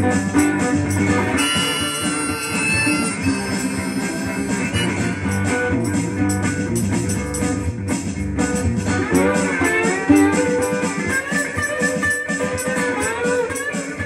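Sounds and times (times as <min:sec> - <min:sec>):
slide guitar blues: 0:00.0 - 0:14.0.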